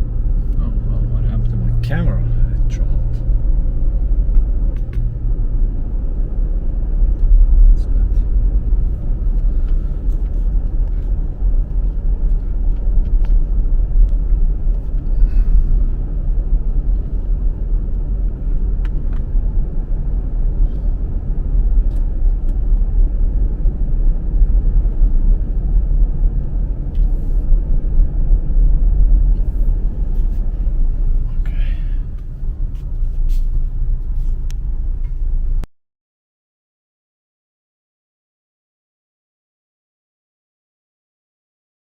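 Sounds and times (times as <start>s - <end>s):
loud low rumbling noise: 0.0s - 35.7s.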